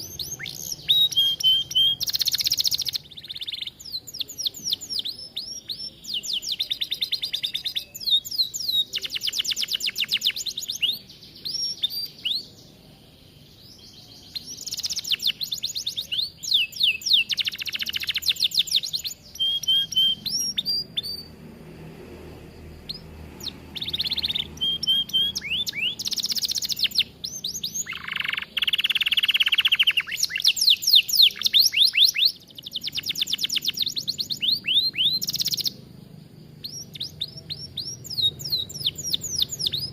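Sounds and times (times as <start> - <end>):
canary singing trills: 0.0 - 21.6, 22.4 - 39.9.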